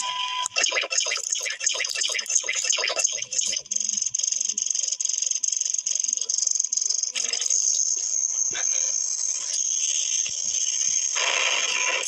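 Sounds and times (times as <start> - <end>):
insect-like trill: 0.8 - 11.9.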